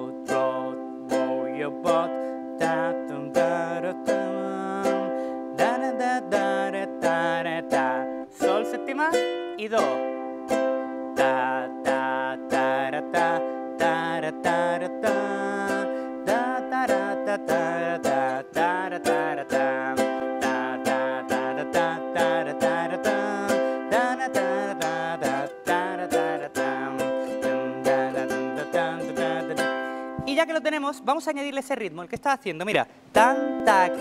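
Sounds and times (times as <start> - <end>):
ukulele strumming: 0.0 - 31.2, 33.1 - 34.0.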